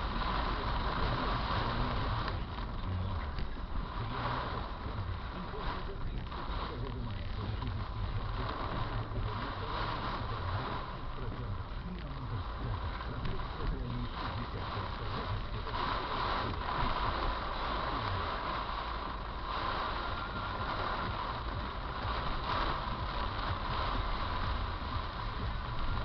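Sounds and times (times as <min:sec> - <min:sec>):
heavy rain pouring: 0:00.0 - 0:26.0
low rumble: 0:00.0 - 0:26.0.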